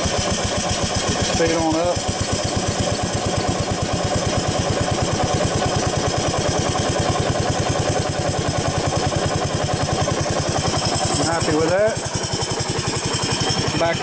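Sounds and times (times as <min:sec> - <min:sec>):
steam engine exhaust beating: 0:00.0 - 0:14.0.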